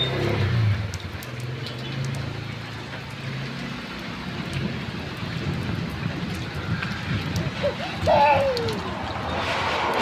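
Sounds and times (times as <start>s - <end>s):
rain on flooded ground: 0.0s - 10.0s
small splashes: 0.0s - 10.0s.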